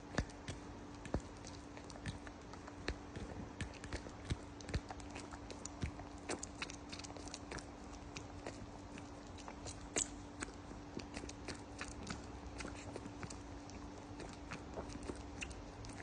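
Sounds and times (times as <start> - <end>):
steady low hum: 0.0 - 16.0
wet mouth clicks and smacks: 0.0 - 16.0.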